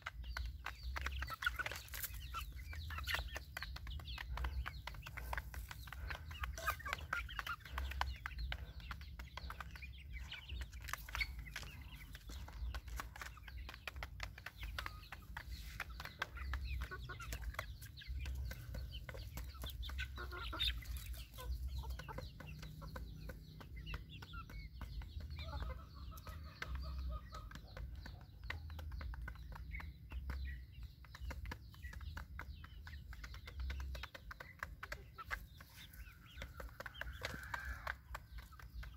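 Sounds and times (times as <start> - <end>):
chicks clucking softly: 0.0 - 38.9.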